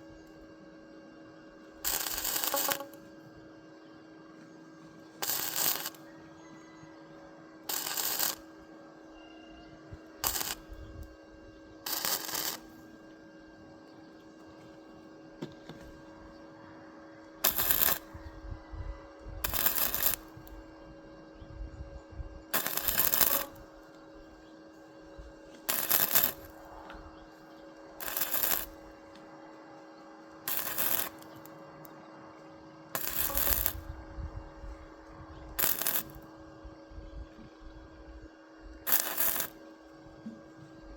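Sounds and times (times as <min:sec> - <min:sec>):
welding machine hum: 0:00.0 - 0:40.9
arc welding crackling: 0:01.6 - 0:03.3, 0:04.4 - 0:06.9, 0:07.6 - 0:16.3, 0:17.4 - 0:18.5, 0:19.1 - 0:40.9.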